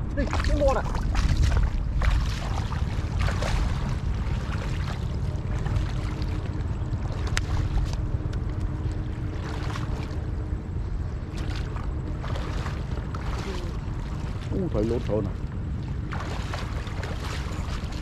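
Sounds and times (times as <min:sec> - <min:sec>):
lake water sloshing: 0:00.0 - 0:18.0
wind rumbling on microphone: 0:00.0 - 0:18.0.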